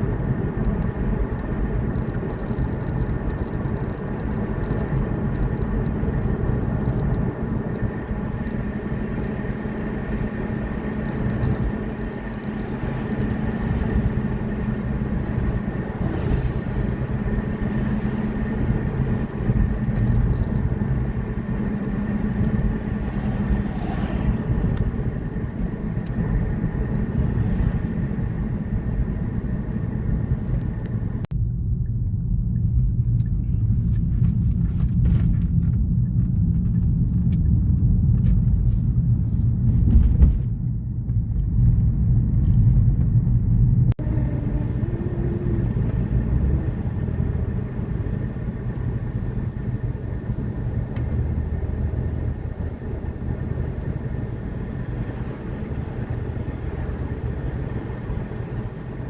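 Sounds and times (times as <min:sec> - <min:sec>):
vehicle low rumble: 0:00.0 - 0:59.0.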